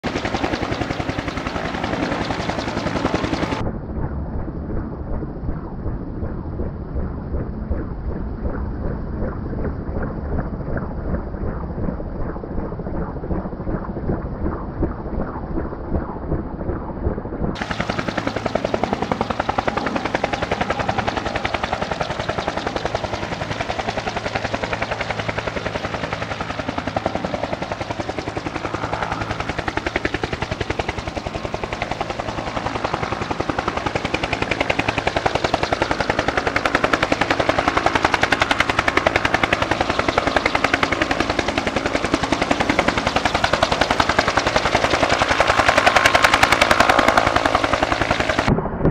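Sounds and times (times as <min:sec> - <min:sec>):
helicopter rotor beating: 0:00.0 - 0:48.8.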